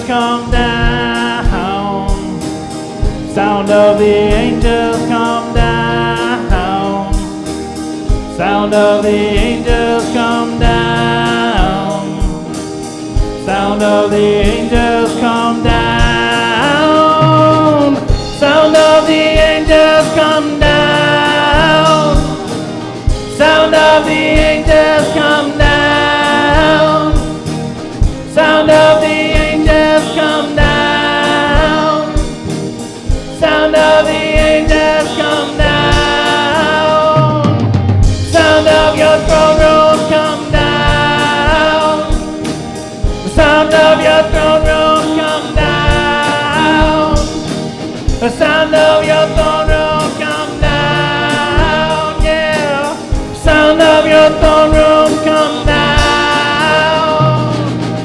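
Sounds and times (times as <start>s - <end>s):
band playing gospel song: 0.0s - 58.0s
person singing: 0.0s - 58.0s.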